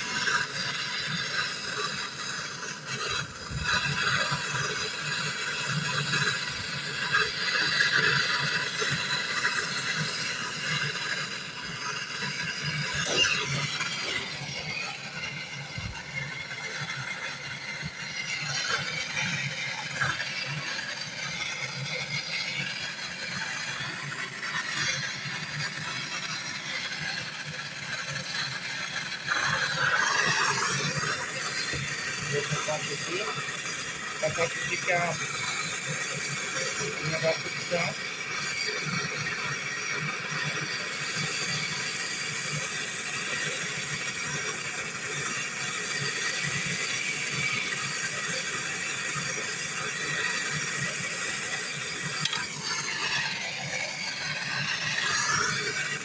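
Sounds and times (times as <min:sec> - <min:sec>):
gas torch hissing: 0:00.0 - 0:56.0.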